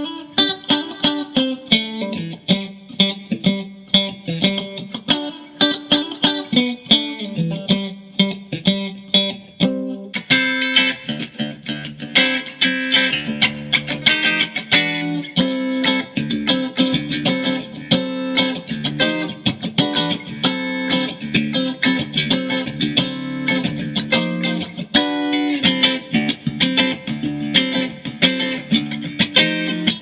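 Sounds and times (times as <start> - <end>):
electric guitar riffs: 0.0 - 30.0.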